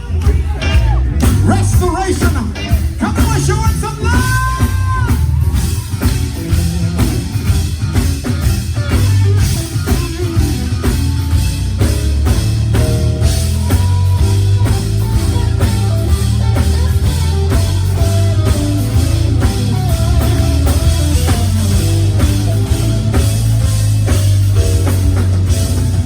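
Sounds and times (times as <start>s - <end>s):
drum kit beat: 0.0s - 26.0s
live band instrumental: 0.0s - 26.0s.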